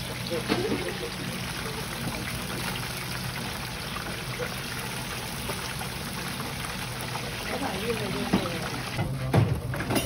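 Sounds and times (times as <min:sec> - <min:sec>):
frying oil sizzling: 0:00.0 - 0:10.0.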